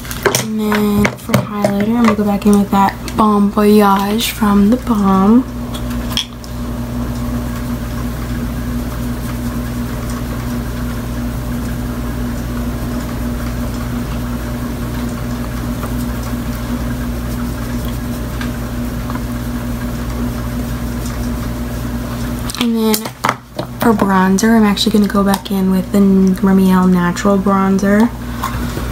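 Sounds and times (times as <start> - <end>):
steady mechanical hum: 0.0 - 28.9.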